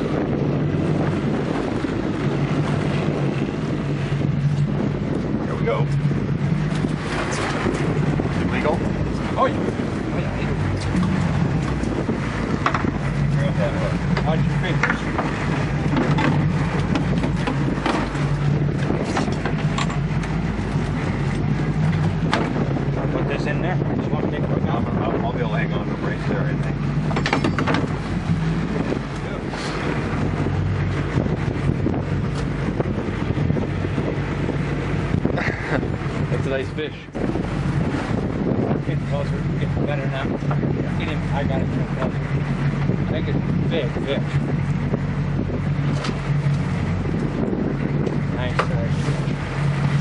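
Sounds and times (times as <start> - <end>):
boat motor humming: 0.0 - 50.0
wind buffeting microphone: 0.0 - 50.0.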